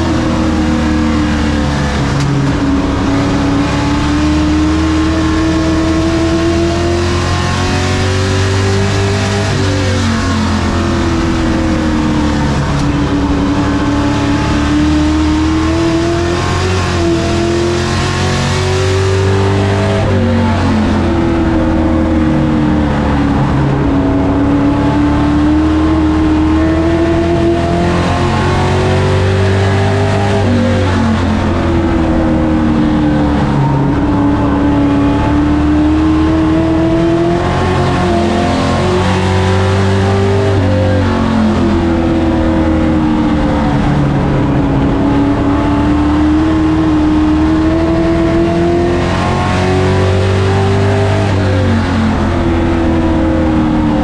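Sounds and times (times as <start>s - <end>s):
race truck engine revving: 0.0s - 54.0s.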